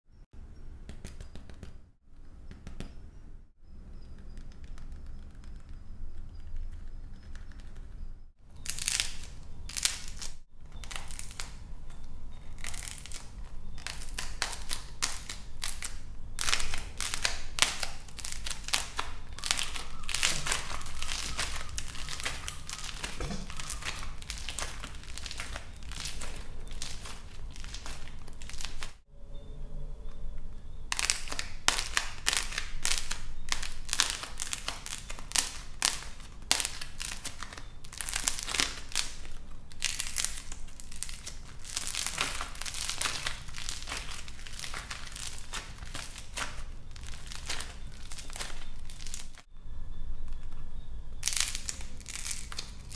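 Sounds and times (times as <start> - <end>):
dried clay crackling and crunching: 3.9 - 29.1, 30.2 - 52.9.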